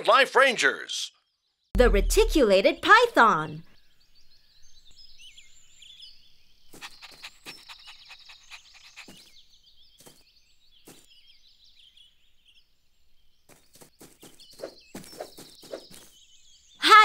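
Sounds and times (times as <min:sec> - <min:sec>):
birds chirping: 0:01.1 - 0:17.0.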